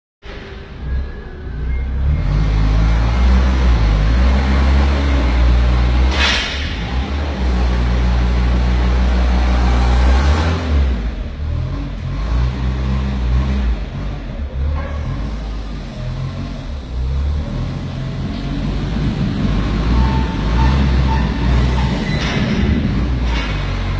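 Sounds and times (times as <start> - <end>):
forklift engine under load: 0.4 - 23.9.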